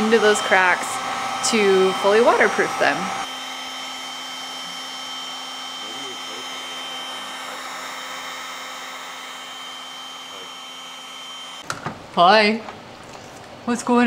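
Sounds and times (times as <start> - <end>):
heat gun fan blowing: 0.0 - 13.7.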